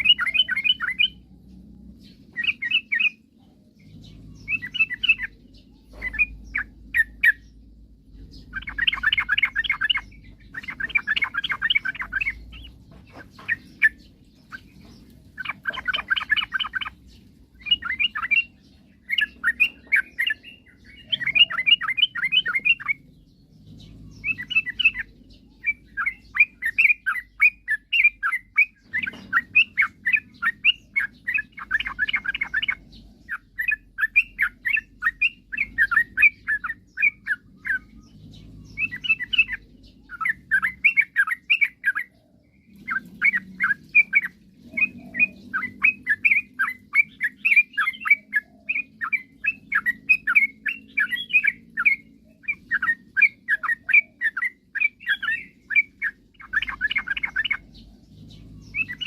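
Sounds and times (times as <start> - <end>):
bird singing bubbling chirps: 0.0 - 59.0.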